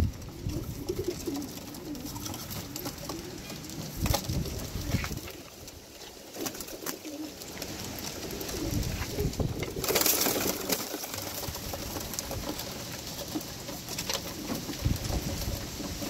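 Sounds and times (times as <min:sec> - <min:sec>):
pigeons cooing: 0:00.0 - 0:16.0
wings flapping: 0:00.0 - 0:16.0.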